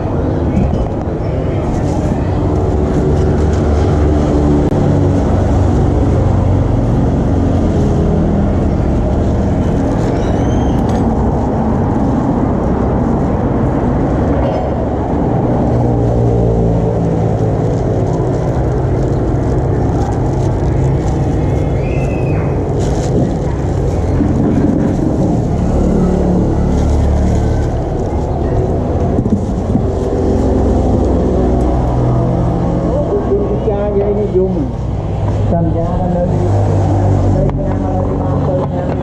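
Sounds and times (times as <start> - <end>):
motor traffic engines humming: 0.0 - 39.0.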